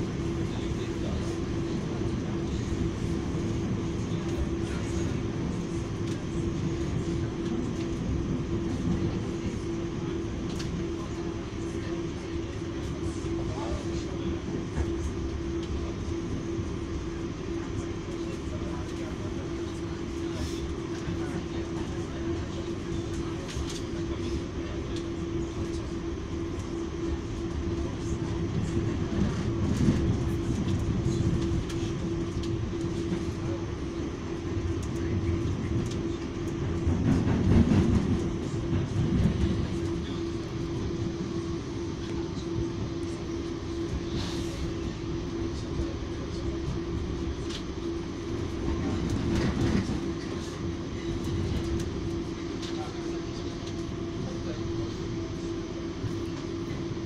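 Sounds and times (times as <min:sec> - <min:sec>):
constant hum: 0:00.0 - 0:57.0
train wheels rumbling on rails: 0:00.0 - 0:57.0.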